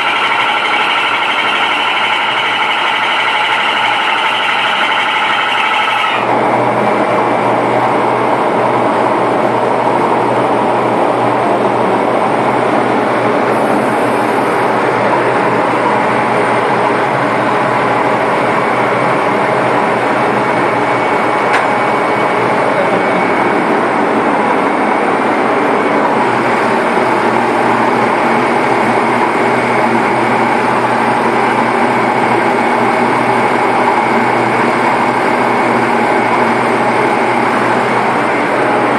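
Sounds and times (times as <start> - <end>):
high-pressure water pump running: 0.0 - 38.9.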